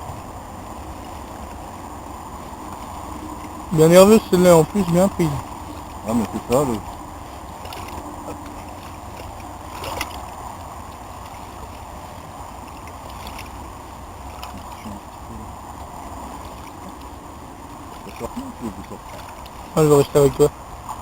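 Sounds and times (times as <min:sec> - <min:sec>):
water at pond's edge: 0:00.0 - 0:21.0.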